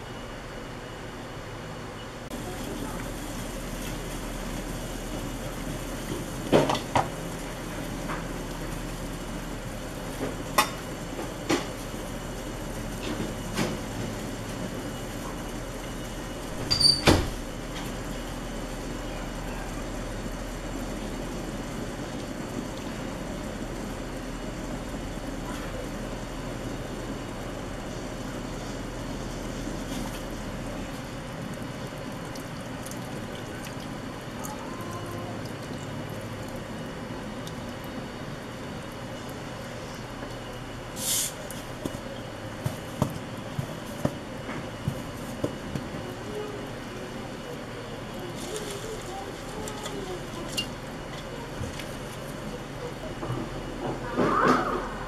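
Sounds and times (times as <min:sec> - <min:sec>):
water boiling in pot: 0:00.0 - 0:55.0.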